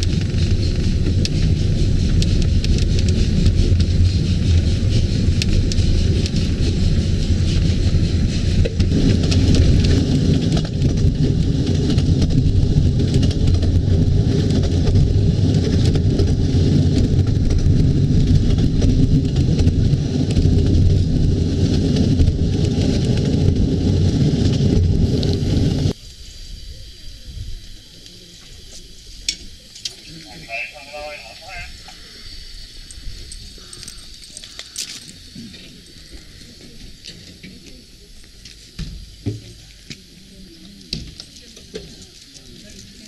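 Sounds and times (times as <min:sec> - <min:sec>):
train wheels rumbling on rails: 0:00.0 - 0:26.0, 0:26.6 - 0:43.0.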